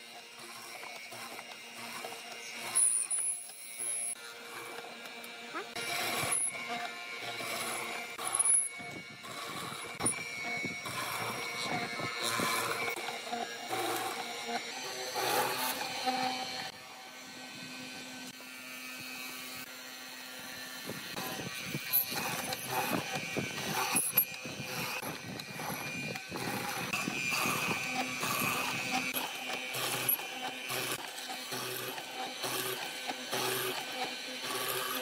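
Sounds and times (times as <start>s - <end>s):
mortiser chisel cutting wood: 0.0s - 35.0s.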